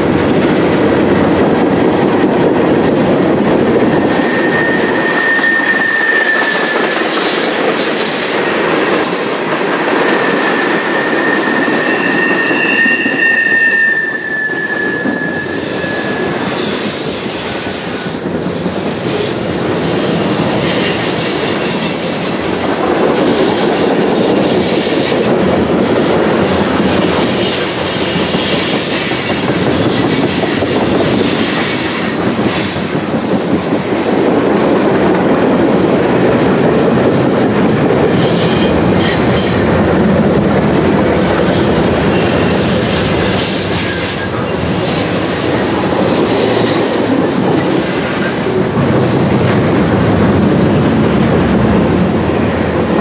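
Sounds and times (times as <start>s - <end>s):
freight train rolling past: 0.0s - 53.0s
steel wheels rattling on rails: 0.0s - 53.0s.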